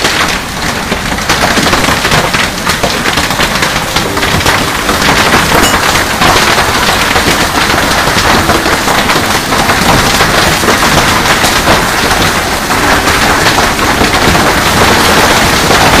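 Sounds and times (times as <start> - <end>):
hailstones pelting down: 0.0 - 16.0.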